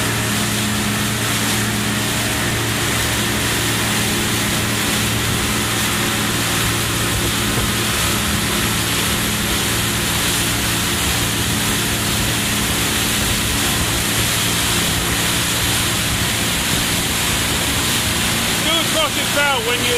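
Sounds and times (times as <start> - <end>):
motorboat engine drone: 0.0 - 19.9
rush of wind and water: 0.0 - 19.9.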